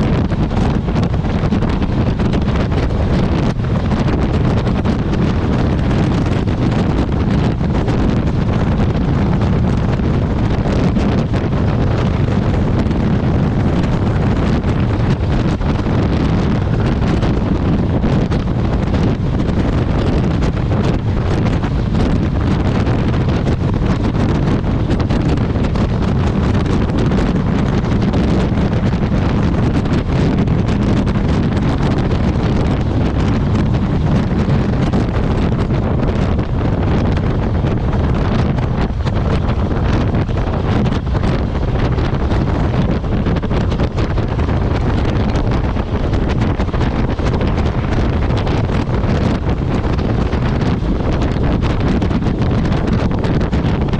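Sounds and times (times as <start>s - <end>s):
motorcycle road and engine noise: 0.0s - 53.9s
wind buffeting microphone: 0.0s - 53.9s.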